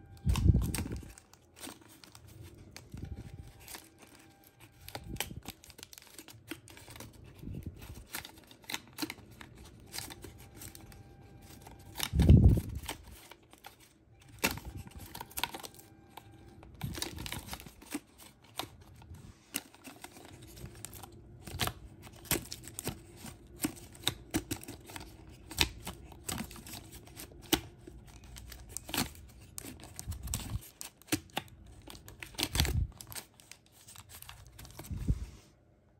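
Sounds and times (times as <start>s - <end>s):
cardboard clicks and rattles: 0.2s - 34.9s.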